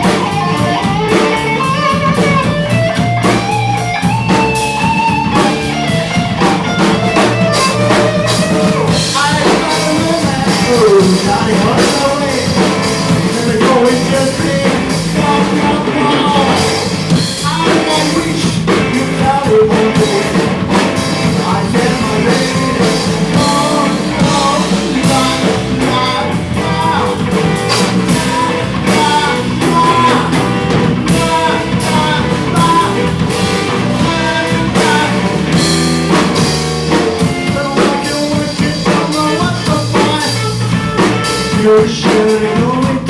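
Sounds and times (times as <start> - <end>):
drum kit steady beat: 0.0 - 43.0
electric guitar lead melody: 0.0 - 43.0
rock band playing live: 0.0 - 43.0.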